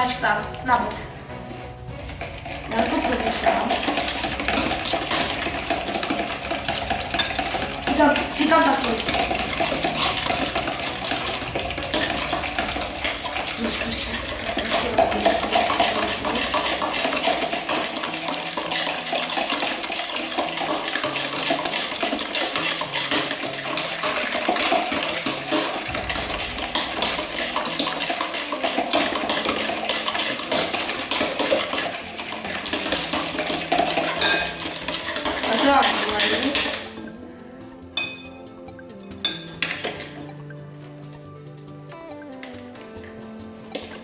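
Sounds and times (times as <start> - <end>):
spoons scraping in mixing bowls: 0.5 - 40.6, 42.4 - 44.0.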